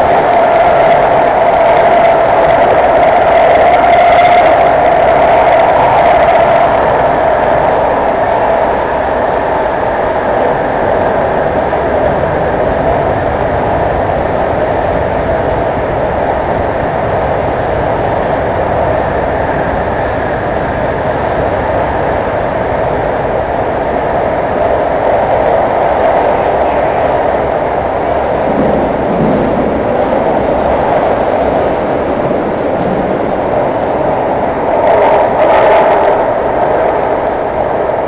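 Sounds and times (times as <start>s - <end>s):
train running through tunnel: 0.0s - 38.0s.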